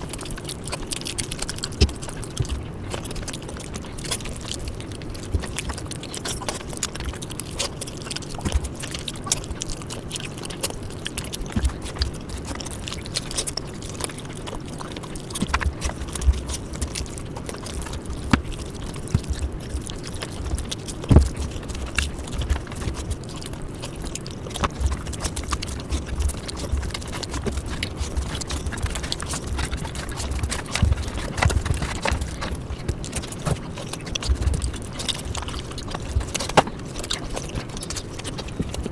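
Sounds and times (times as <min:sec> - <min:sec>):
close chewing with mouth smacks: 0:00.0 - 0:38.9.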